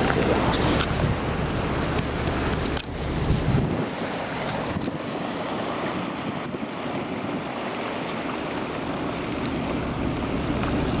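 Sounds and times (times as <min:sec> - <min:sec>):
water washing along shore: 0:00.0 - 0:11.0.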